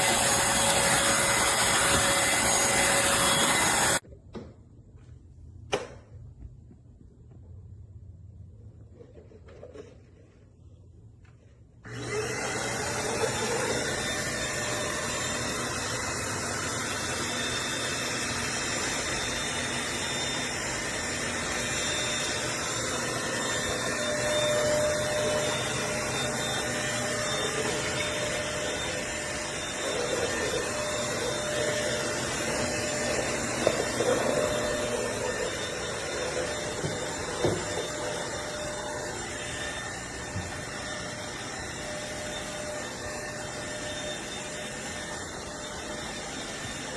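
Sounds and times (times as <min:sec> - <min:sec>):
vacuum cleaner whirring: 0:00.0 - 0:04.5, 0:08.8 - 0:46.9.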